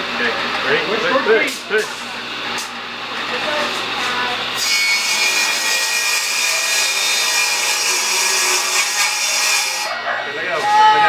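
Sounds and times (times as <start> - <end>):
power saw cutting wood: 0.0 - 10.6.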